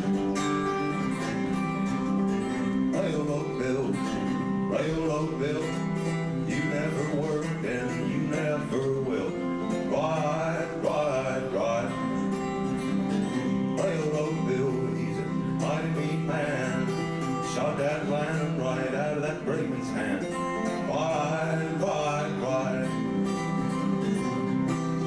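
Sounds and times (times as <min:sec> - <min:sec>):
acoustic guitar: 0:00.0 - 0:25.0
man singing: 0:02.5 - 0:25.0.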